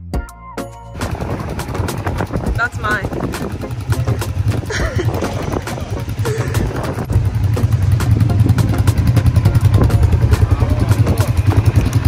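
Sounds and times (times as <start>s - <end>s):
quad bike engine rumbling: 0.9s - 12.0s.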